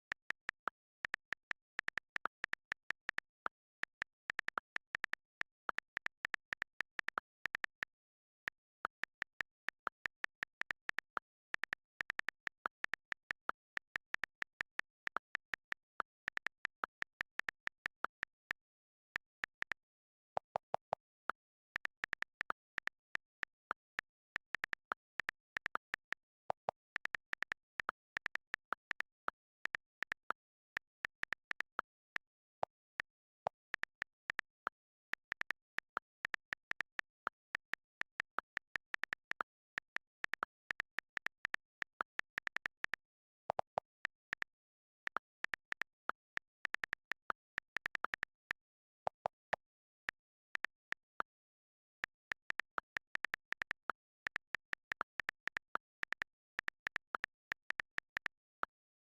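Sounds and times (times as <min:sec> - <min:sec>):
lower-pitched clicks: 0:00.0 - 0:51.4.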